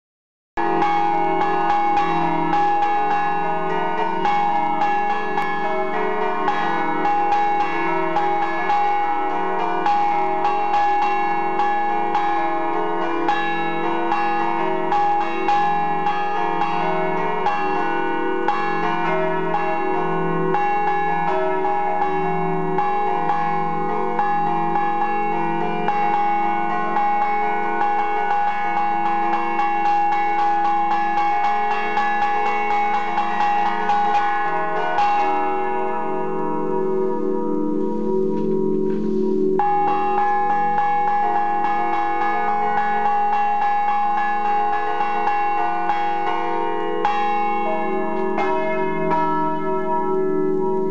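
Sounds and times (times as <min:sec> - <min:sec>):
bells ringing on: 0:00.6 - 0:50.9
church bells struck by hand: 0:00.6 - 0:50.9.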